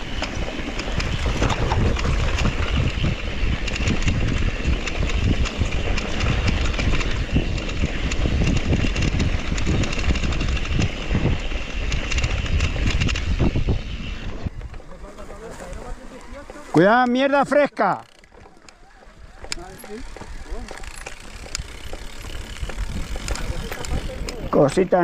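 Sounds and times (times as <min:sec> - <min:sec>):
wind on microphone: 0:00.0 - 0:16.8, 0:19.0 - 0:24.6
mountain bike rattling on dirt trail: 0:00.0 - 0:25.0.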